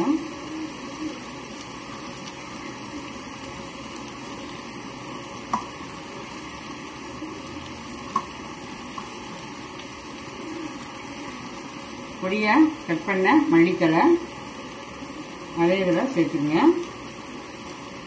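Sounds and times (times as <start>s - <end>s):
low hiss: 0.0s - 18.0s.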